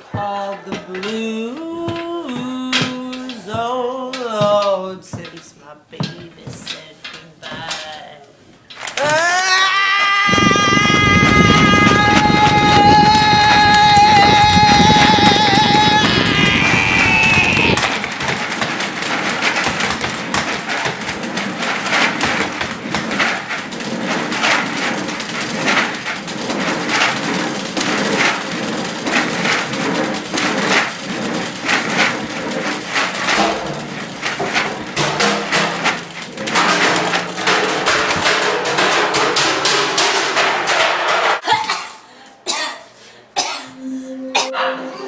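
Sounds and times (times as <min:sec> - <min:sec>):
noisy clatter with knocks and bangs: 0:00.0 - 0:42.6.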